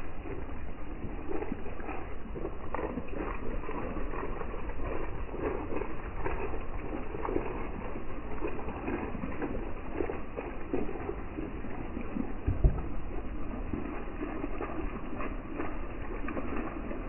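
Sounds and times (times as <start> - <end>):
low rumble: 0.0 - 17.0
rain pattering on leaves: 0.0 - 17.0.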